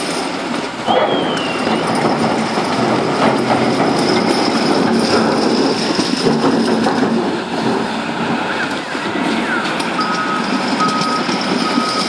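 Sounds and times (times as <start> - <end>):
machinery metallic rattle: 0.0 - 12.0.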